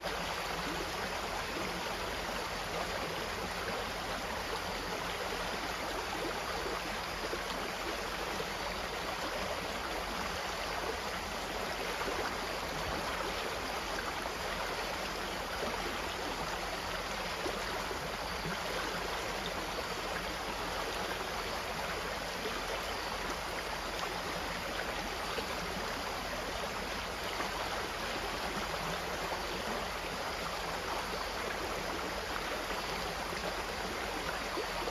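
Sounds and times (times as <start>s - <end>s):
stream of water flowing: 0.0s - 34.9s.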